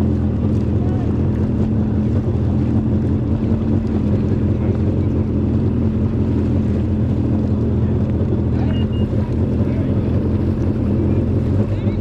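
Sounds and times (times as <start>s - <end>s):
jet ski engine humming: 0.0s - 12.0s.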